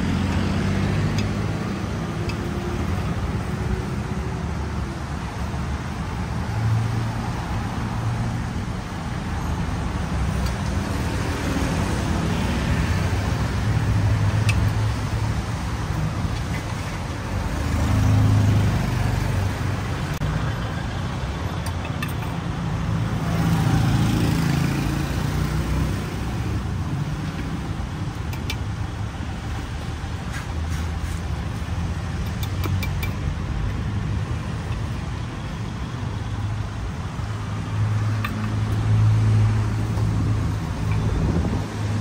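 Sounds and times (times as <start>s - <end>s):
street traffic rumbling: 0.0s - 42.0s.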